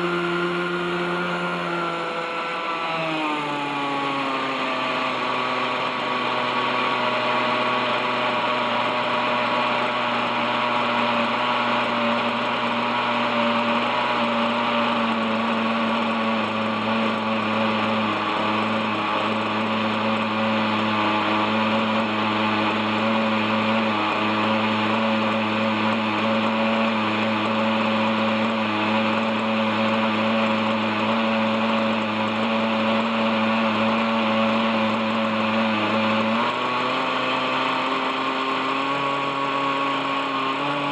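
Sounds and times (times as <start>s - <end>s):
model helicopter engine running: 0.0s - 40.9s.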